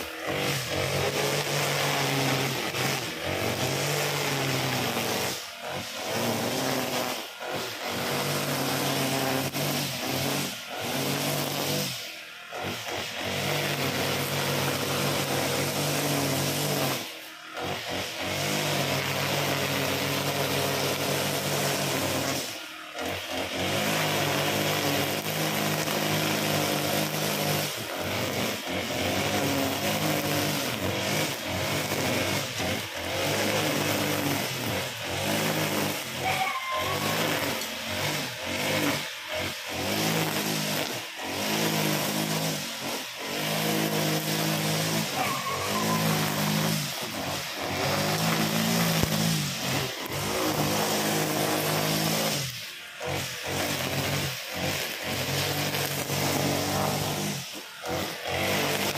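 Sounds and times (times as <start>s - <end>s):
brush cutter engine running: 0.0s - 58.9s.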